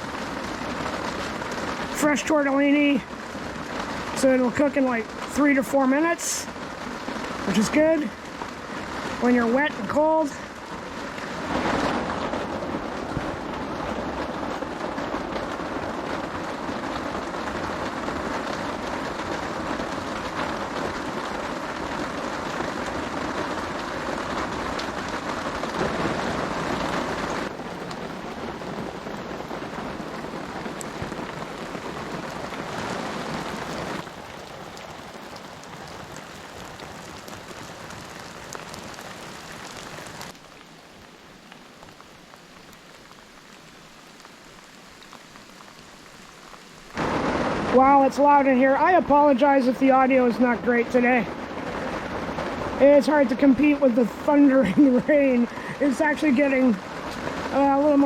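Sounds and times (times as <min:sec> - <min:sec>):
heavy rain on a tarp: 0:00.0 - 0:58.0.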